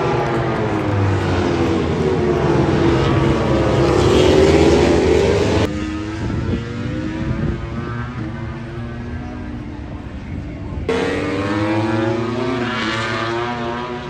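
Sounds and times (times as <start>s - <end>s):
steady engine note: 0.0s - 12.6s
racing motorcycle engines: 0.0s - 14.0s.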